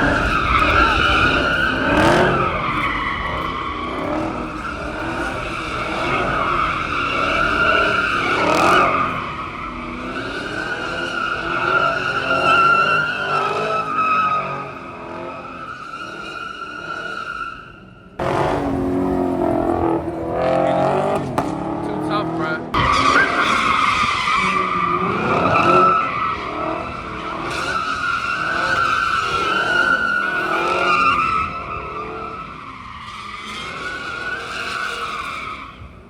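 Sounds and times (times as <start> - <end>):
car engine revving: 0.0 - 36.0
tires squealing: 0.0 - 36.0.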